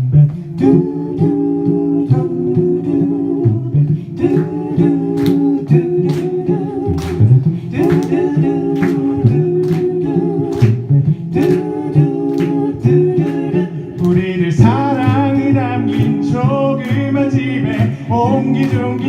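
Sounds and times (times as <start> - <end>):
a cappella group singing: 0.0 - 19.0
vocal percussion beats: 0.0 - 19.0.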